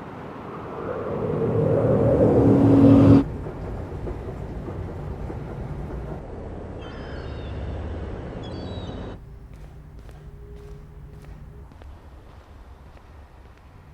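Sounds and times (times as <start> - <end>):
city traffic noise: 0.0 - 13.9
low urban rumble: 0.0 - 13.9.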